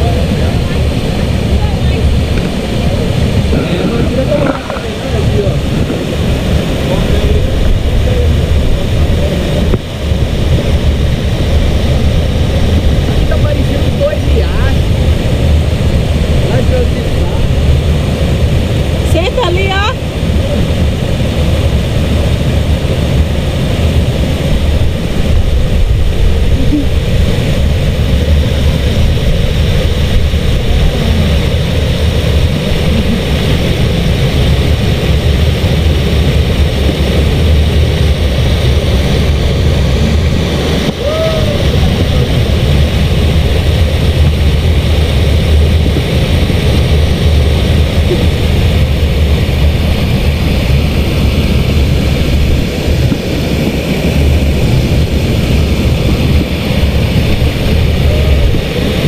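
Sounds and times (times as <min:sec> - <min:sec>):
waterfall rushing into rapids: 0:00.0 - 0:59.0.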